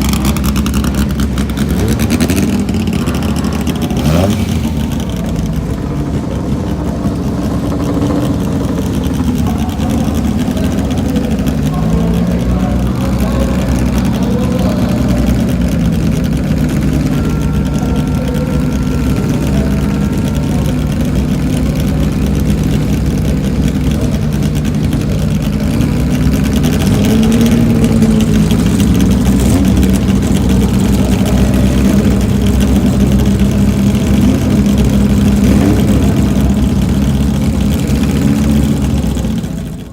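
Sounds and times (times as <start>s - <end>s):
racing car engines idling: 0.0s - 39.9s.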